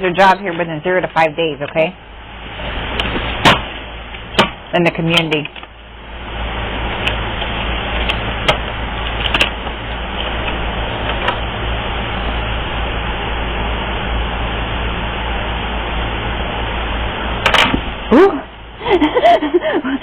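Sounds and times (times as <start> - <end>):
air conditioning blowing: 0.0 - 20.0
low hum: 0.0 - 20.0.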